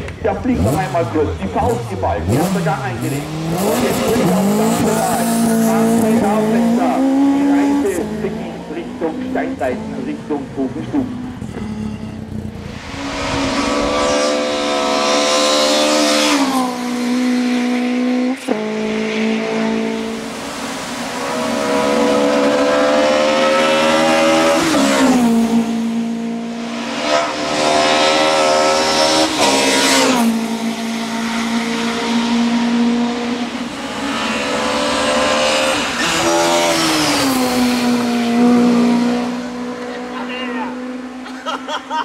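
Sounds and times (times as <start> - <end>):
race car engine revving hard: 0.0 - 42.0.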